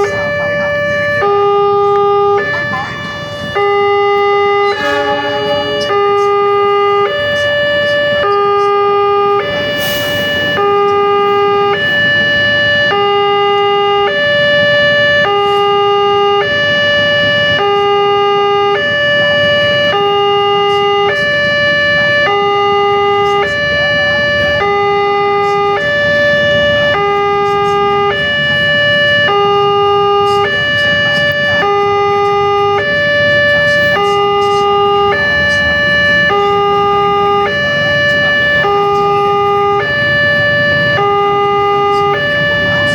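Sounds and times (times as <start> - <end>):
level crossing two-tone alarm: 0.0 - 42.9.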